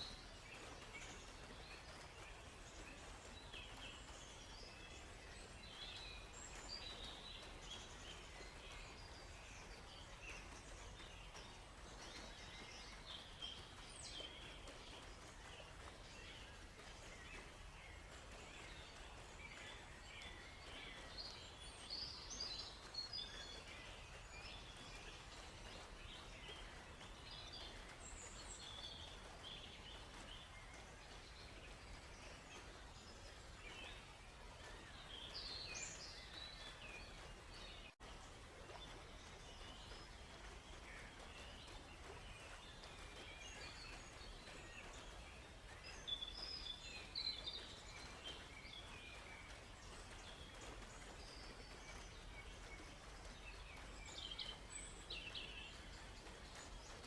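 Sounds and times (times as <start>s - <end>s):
forest ambience hiss: 0.0s - 57.0s
songbirds chirping and trilling: 0.0s - 57.0s.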